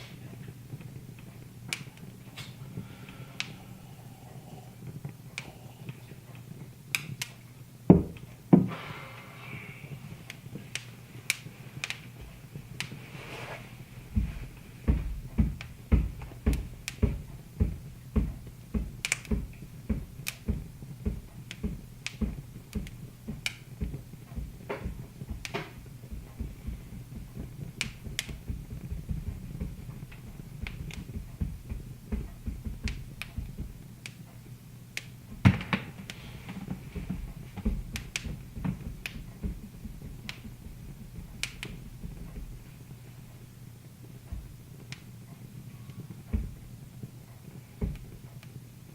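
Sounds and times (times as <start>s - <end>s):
low steady hum: 0.0s - 48.9s
wood fire crackling: 0.0s - 48.9s.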